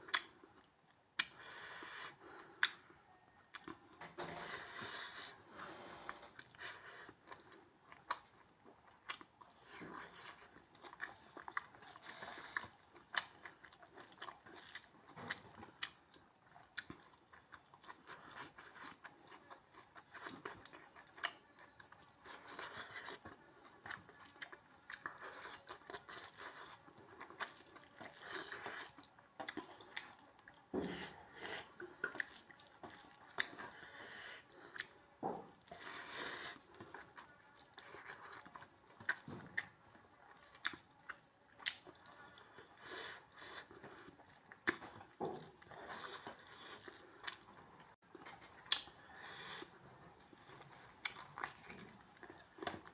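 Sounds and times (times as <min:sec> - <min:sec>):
person chewing meat: 0:00.0 - 0:52.9.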